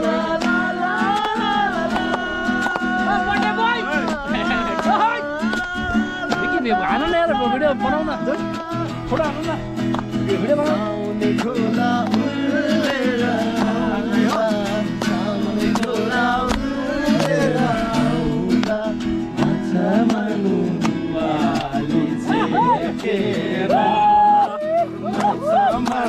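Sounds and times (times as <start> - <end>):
person singing: 0.0 - 9.0, 10.7 - 26.0
guitar accompaniment: 0.0 - 26.0.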